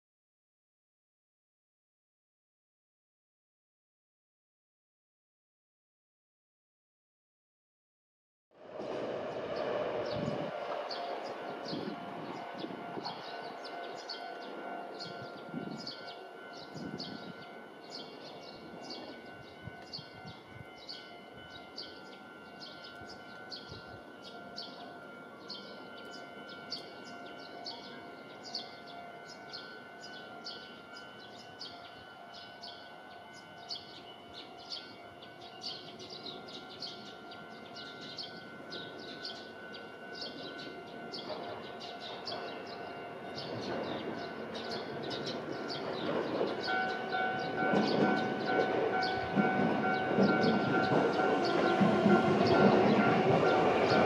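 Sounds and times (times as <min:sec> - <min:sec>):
tram running on rails: 0:08.6 - 0:54.0
birds chirping: 0:09.4 - 0:54.0
two-tone crossing bell: 0:10.1 - 0:54.0.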